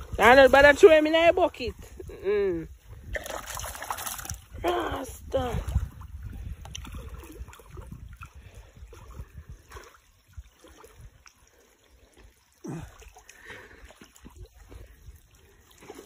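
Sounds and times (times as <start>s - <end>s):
stream water trickling: 0.0s - 16.0s.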